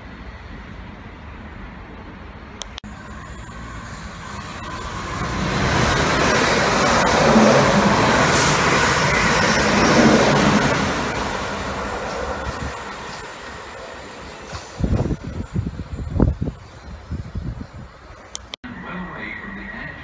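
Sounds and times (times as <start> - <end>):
train passing with rail noise: 0.0 - 20.0.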